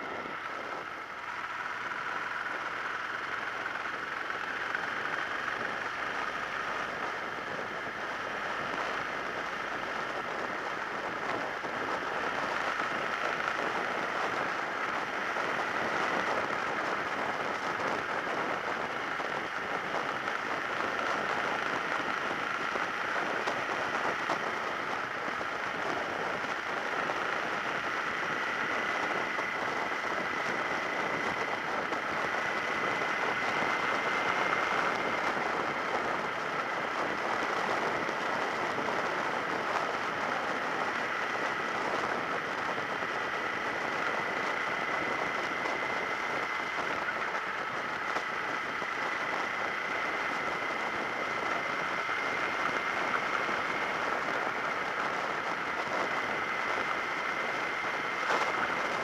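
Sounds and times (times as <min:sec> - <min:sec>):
motorcycle engine whine: 0:00.0 - 0:59.0
wind and road noise: 0:00.0 - 0:59.0.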